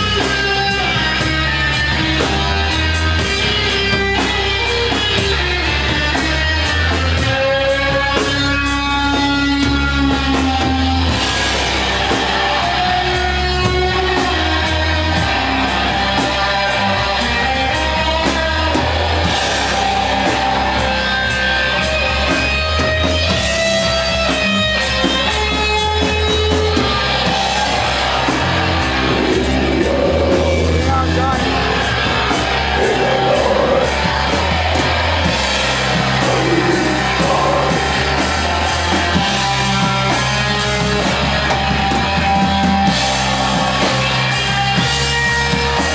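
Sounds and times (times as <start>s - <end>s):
distorted electric guitar: 0.0s - 45.9s
drums and cymbals: 0.0s - 45.9s.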